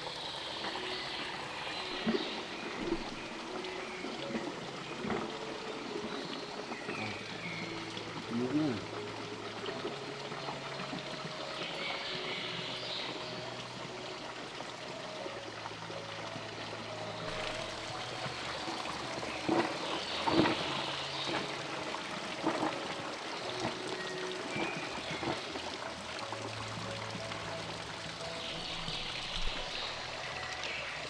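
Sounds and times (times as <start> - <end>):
running water: 0.0 - 31.0
soft sustained music notes: 0.0 - 31.0.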